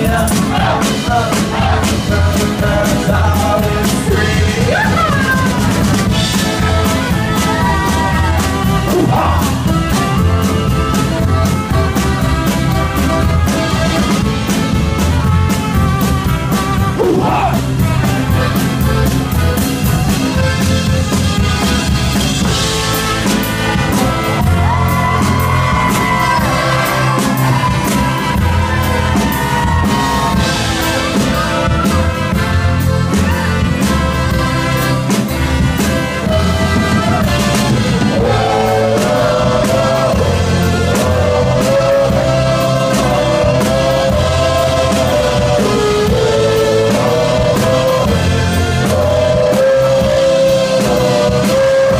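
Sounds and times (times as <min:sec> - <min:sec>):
accordion: 0:00.0 - 0:51.9
steady drum beat: 0:00.0 - 0:51.9
trumpets: 0:03.4 - 0:51.9.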